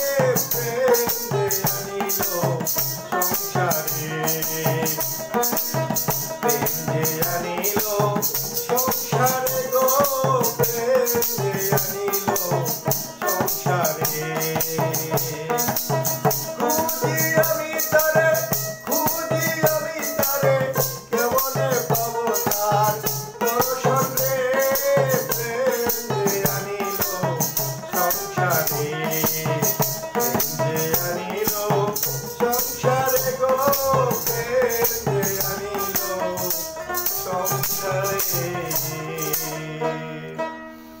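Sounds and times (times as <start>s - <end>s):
hand drum: 0.0s - 40.3s
man singing: 0.0s - 40.7s.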